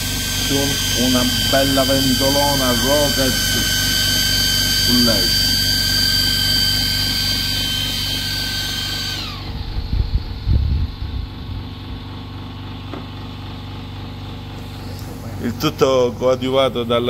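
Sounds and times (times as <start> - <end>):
small cooling fan whining: 0.0 - 17.0.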